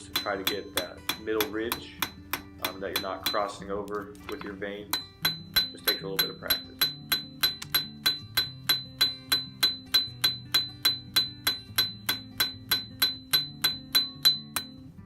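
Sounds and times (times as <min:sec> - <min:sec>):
hammer striking steel on anvil: 0:00.0 - 0:03.7, 0:04.3 - 0:14.9.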